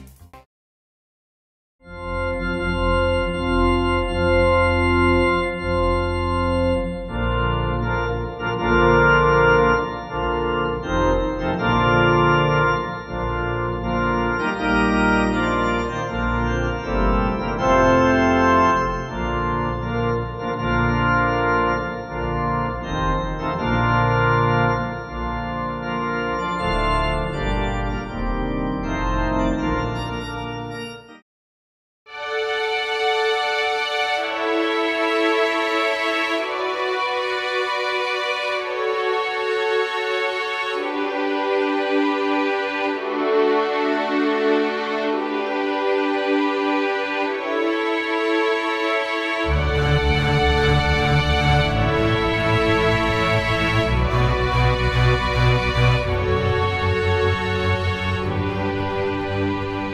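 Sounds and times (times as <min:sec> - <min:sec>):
organ music: 0:01.8 - 0:31.2, 0:32.1 - 0:59.9.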